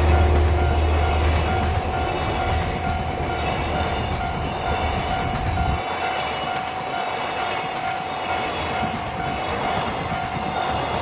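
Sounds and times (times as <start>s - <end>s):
crossing warning alarm tone: 0.0s - 11.0s
deep train rumble: 0.0s - 11.0s.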